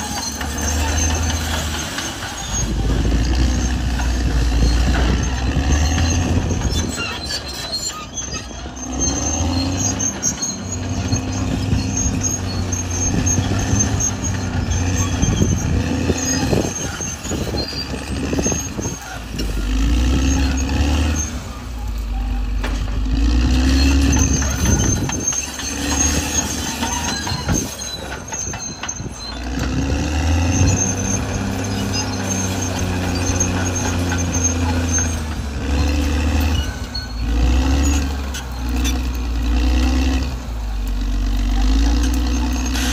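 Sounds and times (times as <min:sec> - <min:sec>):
bulldozer diesel engine under load: 0:00.0 - 0:42.9
high squeaks: 0:00.0 - 0:42.9.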